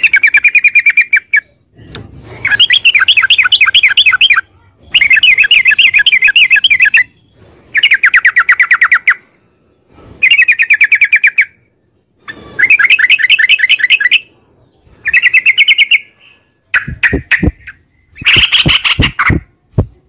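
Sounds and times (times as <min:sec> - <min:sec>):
bird singing rapid trill: 0:00.0 - 0:19.5.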